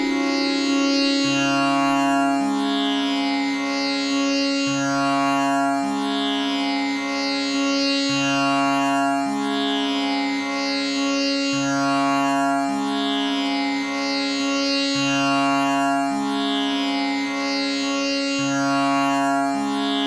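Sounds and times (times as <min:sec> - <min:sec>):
tanpura drone: 0:00.0 - 0:20.0.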